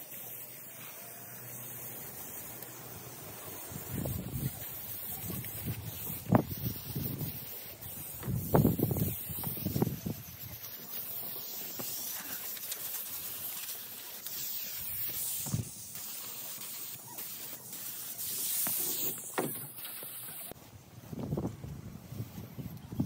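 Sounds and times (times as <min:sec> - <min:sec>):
paint spray gun hissing: 0:00.0 - 0:20.6.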